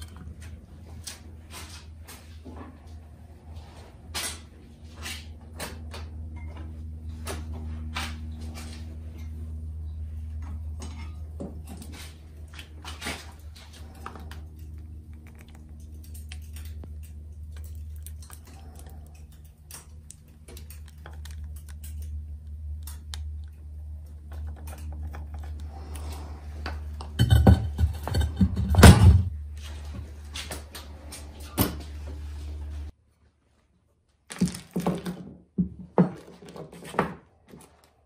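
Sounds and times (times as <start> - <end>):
steady low hum: 0.0 - 33.1.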